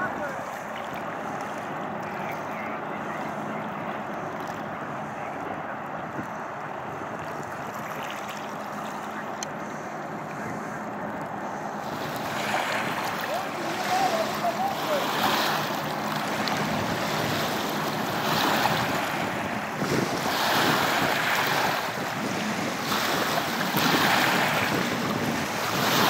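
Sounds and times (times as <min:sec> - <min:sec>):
river water washing against bank: 0:00.0 - 0:26.0
wind buffeting microphone: 0:00.0 - 0:26.0.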